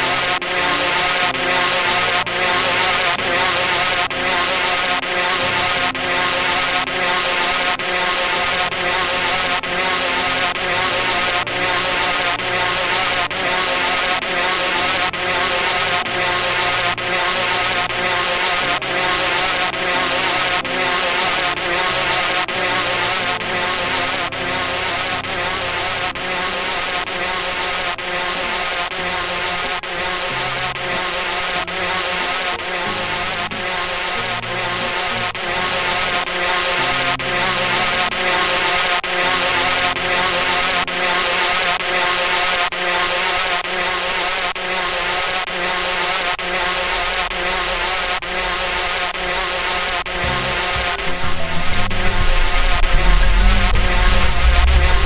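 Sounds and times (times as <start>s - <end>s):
buzzing electronic music: 0.0s - 55.0s.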